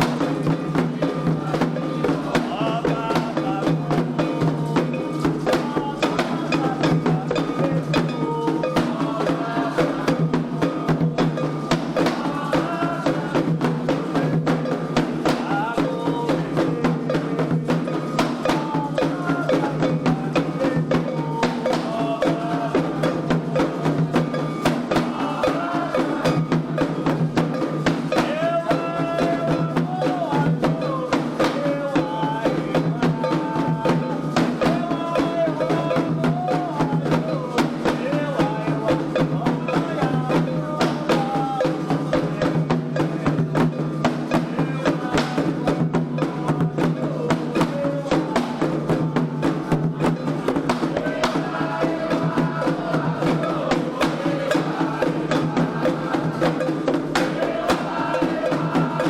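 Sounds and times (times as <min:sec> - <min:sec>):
hand drums playing rhythm: 0:00.0 - 0:59.0
voices singing: 0:00.0 - 0:59.0.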